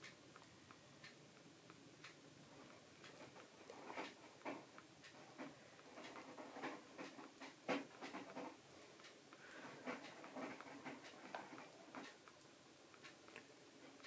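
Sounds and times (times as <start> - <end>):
kitten sucking and smacking: 0.0 - 14.0.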